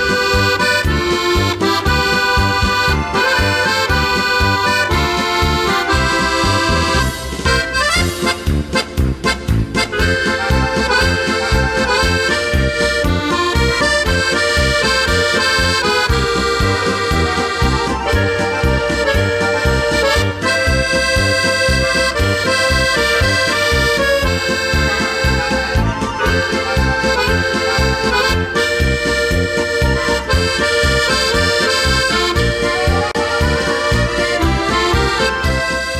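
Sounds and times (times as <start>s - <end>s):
accordion folk music: 0.0s - 35.9s.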